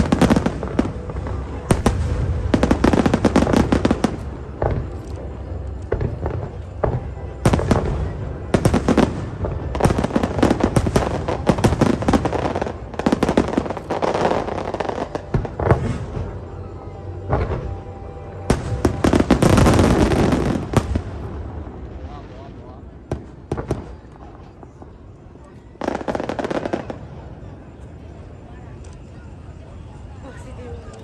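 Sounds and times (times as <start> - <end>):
fireworks crackling bursts: 0.0 - 31.0.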